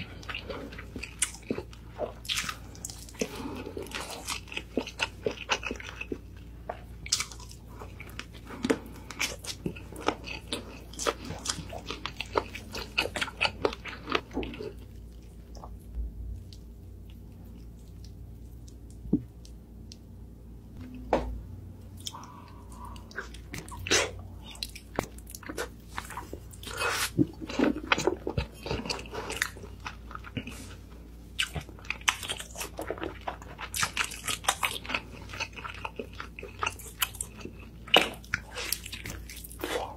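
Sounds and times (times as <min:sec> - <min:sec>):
crunchy chewing: 0:00.0 - 0:19.6, 0:22.0 - 0:39.9.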